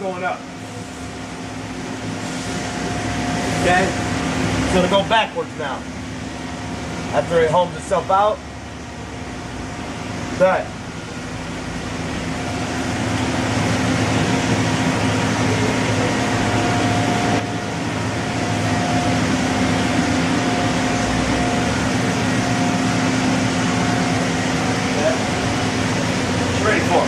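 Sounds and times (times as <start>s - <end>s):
machine hum: 0.0s - 27.0s
thin steady whine: 0.0s - 27.0s.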